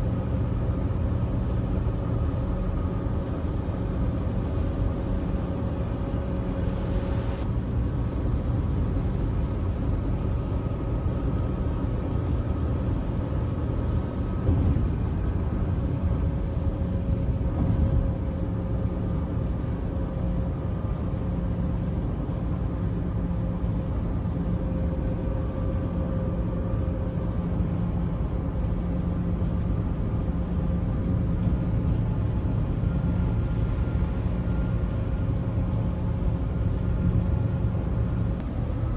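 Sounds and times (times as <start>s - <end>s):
vehicle road and engine rumble: 0.0s - 38.9s.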